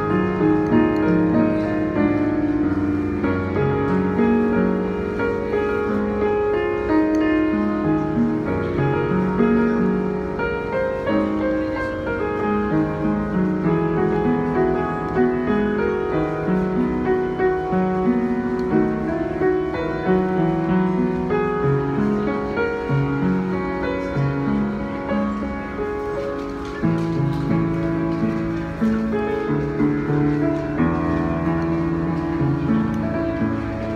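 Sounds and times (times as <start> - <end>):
solo piano playing pop song: 0.0 - 33.9.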